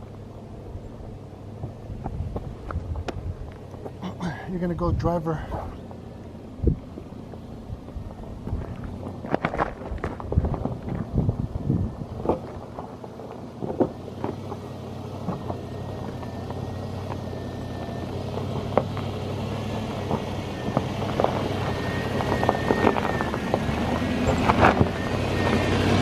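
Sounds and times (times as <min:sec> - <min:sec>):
vehicle engine running slowly: 0:00.0 - 0:26.0.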